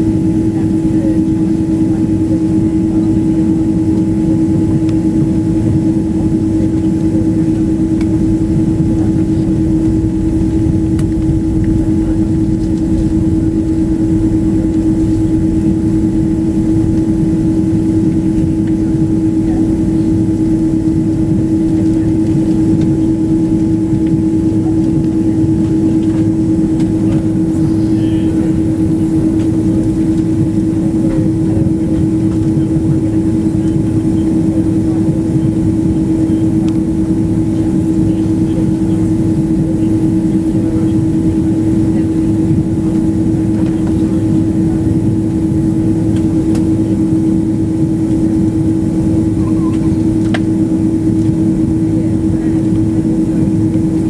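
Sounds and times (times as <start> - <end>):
airliner cabin engine hum: 0.0 - 54.0.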